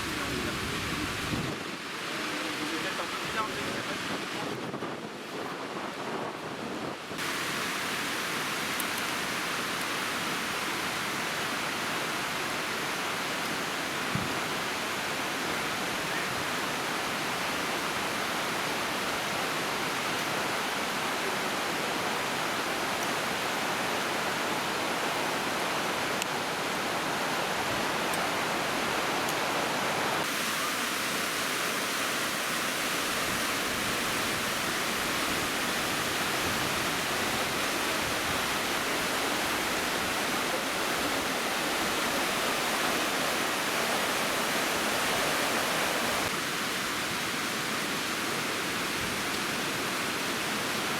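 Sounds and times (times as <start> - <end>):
waterfall rushing: 0.0 - 6.5, 7.1 - 50.9.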